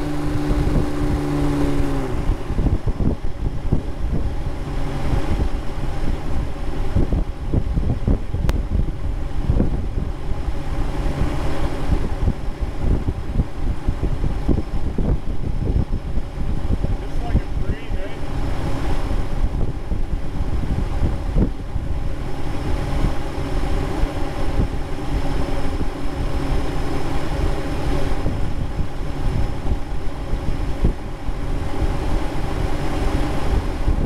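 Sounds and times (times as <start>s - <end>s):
engine drone: 0.0s - 34.0s
wind buffeting microphone: 0.0s - 34.0s.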